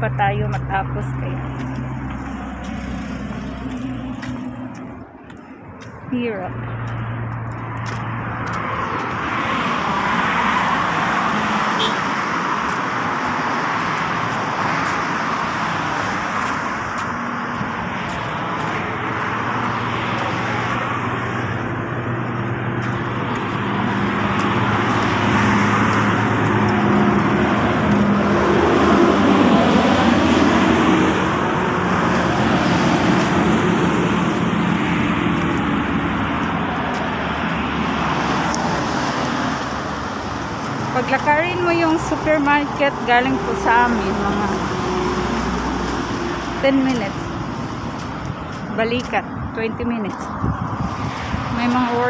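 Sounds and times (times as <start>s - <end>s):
highway traffic rushing: 0.0s - 52.0s
vehicle passing loudly: 0.0s - 52.0s.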